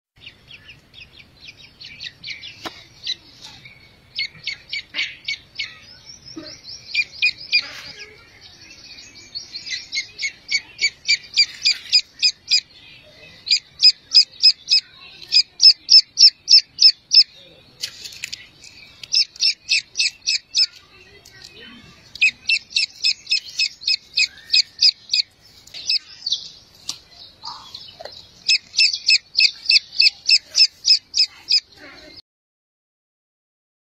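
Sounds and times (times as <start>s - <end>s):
chicks peeping: 0.2s - 32.2s.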